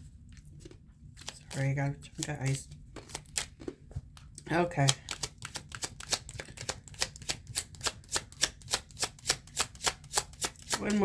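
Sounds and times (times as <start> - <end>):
cards being shuffled: 0.6 - 11.0.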